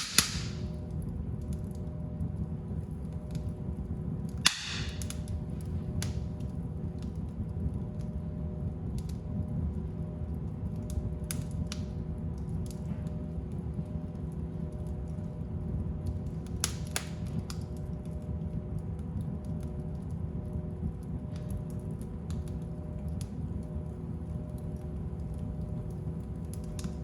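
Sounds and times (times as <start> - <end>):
fire crackling in fireplace: 0.0 - 27.0.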